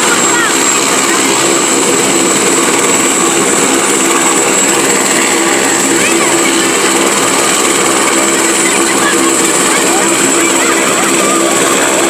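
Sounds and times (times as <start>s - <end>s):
faint crowd voices: 0.0s - 12.0s
helicopter rotor and turbine roar: 0.0s - 12.0s
high turbine whine: 0.0s - 12.0s.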